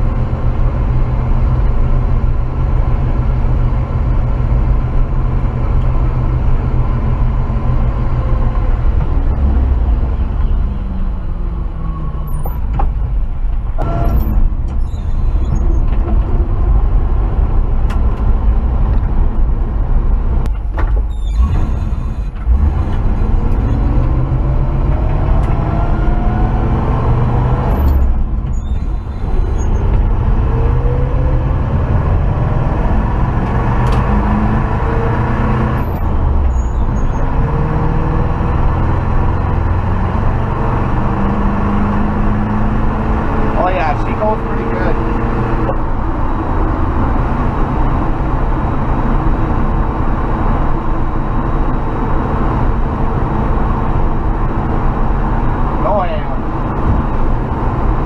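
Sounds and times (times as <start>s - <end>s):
truck engine accelerating through gears: 0.0s - 58.0s.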